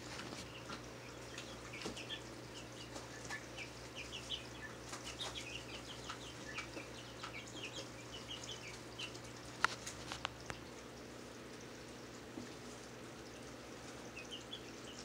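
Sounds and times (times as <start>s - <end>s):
aquarium filter hum: 0.0s - 15.0s.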